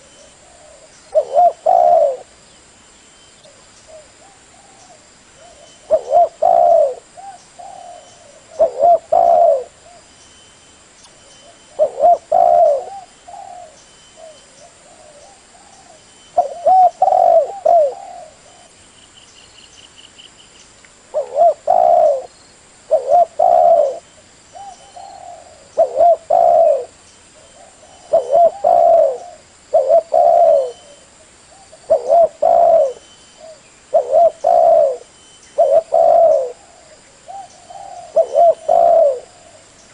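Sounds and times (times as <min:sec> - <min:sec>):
dove cooing: 0:00.0 - 0:02.3, 0:03.5 - 0:10.1, 0:11.4 - 0:18.8, 0:21.1 - 0:22.3, 0:22.9 - 0:39.8.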